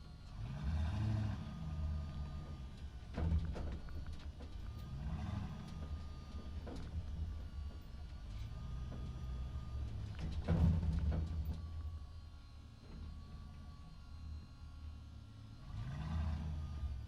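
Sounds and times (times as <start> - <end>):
motor running with varying pitch: 0.0 - 17.0.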